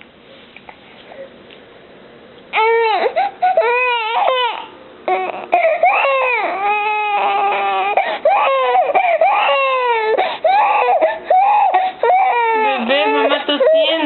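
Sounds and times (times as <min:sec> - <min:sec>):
baby crying: 0:02.5 - 0:14.0.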